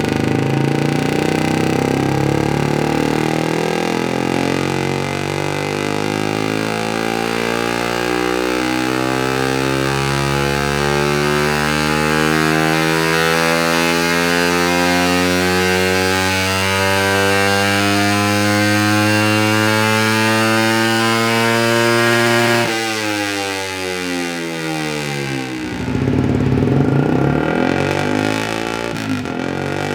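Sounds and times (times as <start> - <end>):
motorcycle engine revving on dyno: 0.0 - 29.9.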